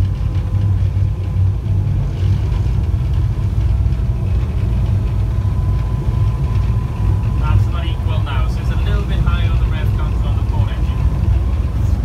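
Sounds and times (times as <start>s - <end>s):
boat engines rumbling: 0.0s - 12.0s
faint steady whine: 0.0s - 12.0s.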